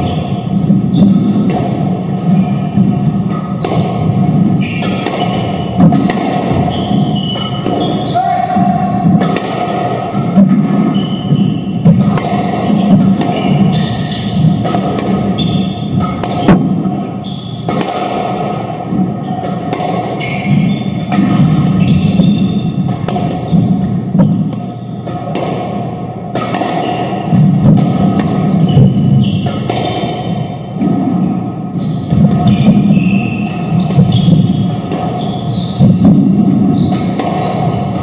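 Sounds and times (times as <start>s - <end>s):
squash ball hits echoing: 0.0s - 38.0s.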